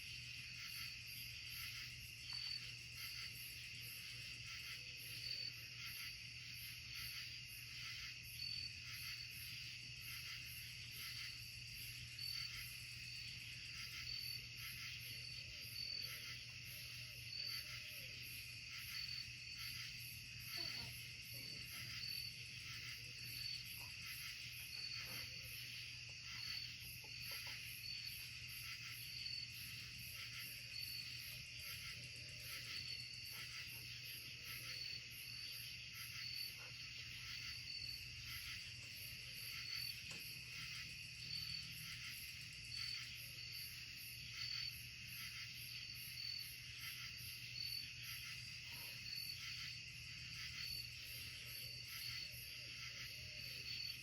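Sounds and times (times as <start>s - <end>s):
continuous high insect trill: 0.0s - 54.0s
insects pulsing chirps: 0.0s - 54.0s.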